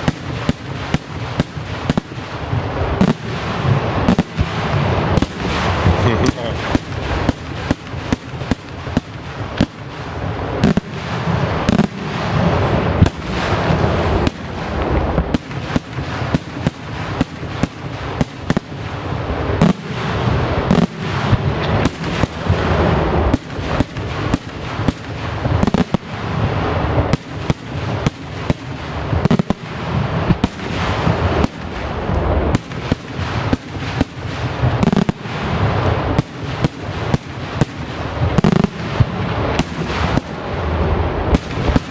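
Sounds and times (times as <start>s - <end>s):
fireworks loud bangs: 0.0s - 41.9s.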